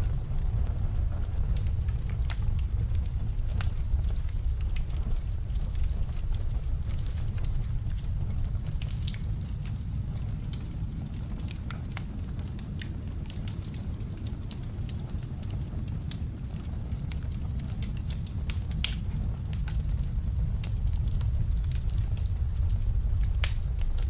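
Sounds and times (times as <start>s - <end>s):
low rumble: 0.0s - 24.0s
wood fire crackling: 0.0s - 24.0s
sharp pops from fire: 0.4s - 24.0s.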